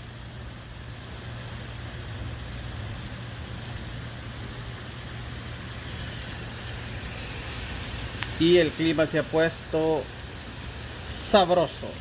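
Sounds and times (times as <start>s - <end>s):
heavy rain on pavement and roofs: 0.0s - 12.0s
low steady hum: 0.0s - 12.0s.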